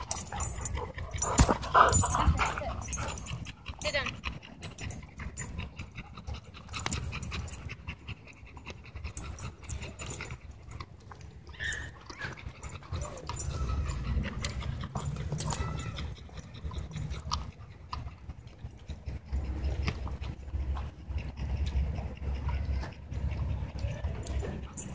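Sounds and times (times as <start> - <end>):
dog panting: 0.0 - 24.9.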